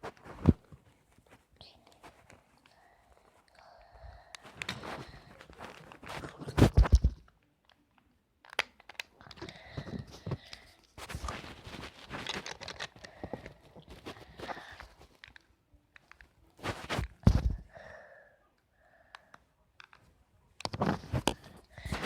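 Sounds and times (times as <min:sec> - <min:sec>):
handling noise crinkling and clicks: 0:00.0 - 0:17.6, 0:19.1 - 0:22.0.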